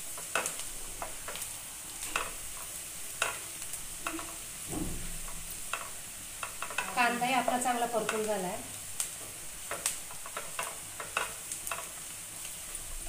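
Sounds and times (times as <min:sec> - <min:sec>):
frying sizzle: 0:00.0 - 0:13.0
spatula tapping and scraping pan: 0:00.1 - 0:01.4, 0:02.0 - 0:04.6, 0:05.2 - 0:08.4, 0:09.0 - 0:12.5.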